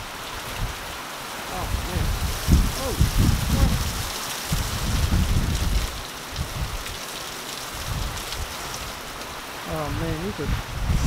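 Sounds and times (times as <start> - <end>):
wind gusts on microphone: 0.0 - 7.0, 7.7 - 11.0
heavy rain pouring: 0.0 - 11.0.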